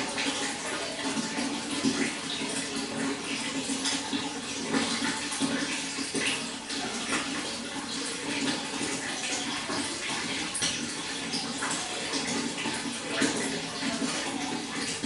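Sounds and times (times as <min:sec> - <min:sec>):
flowing water splashing: 0:00.0 - 0:15.0.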